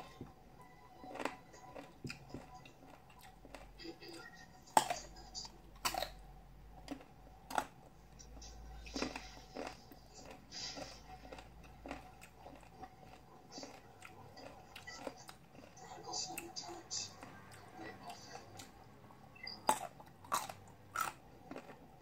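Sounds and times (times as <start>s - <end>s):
crunchy biting and chewing of mango: 1.0s - 18.8s, 19.4s - 22.0s.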